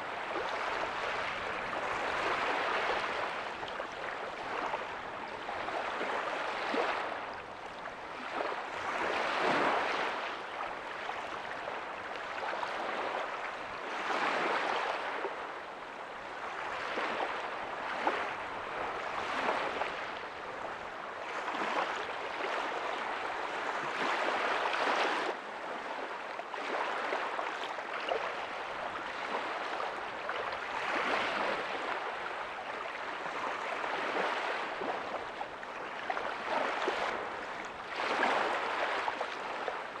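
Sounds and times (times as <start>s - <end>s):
small waves breaking on a beach: 0.0s - 40.0s.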